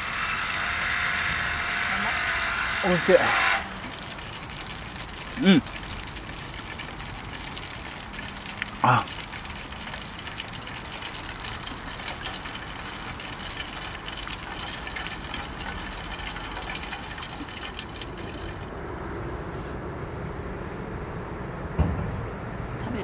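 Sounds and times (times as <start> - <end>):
food sizzling in hot oil: 0.0 - 18.9.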